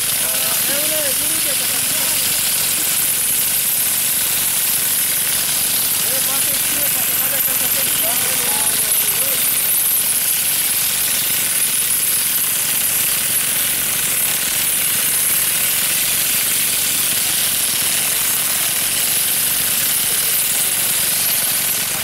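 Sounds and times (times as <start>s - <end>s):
olive harvester rattling: 0.0s - 22.0s.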